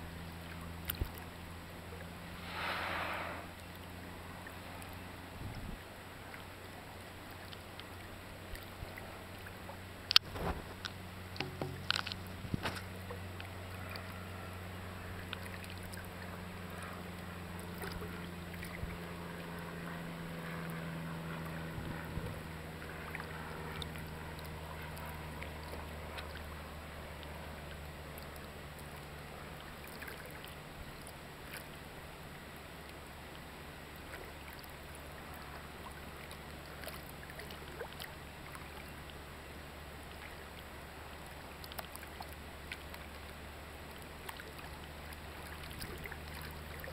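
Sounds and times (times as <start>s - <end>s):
water lapping against boat hull: 0.0s - 2.5s, 3.4s - 46.9s
low steady hum: 0.0s - 46.9s.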